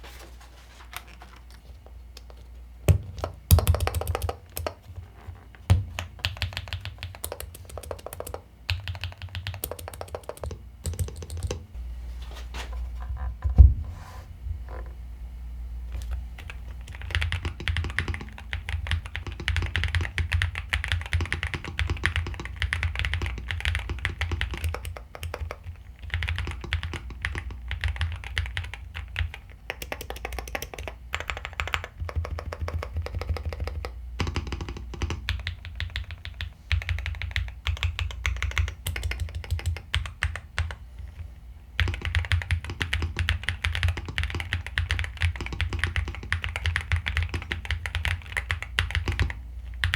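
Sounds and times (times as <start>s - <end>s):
mechanical keyboard typing: 2.9s - 4.8s, 5.8s - 11.7s, 16.4s - 40.8s, 41.8s - 49.9s.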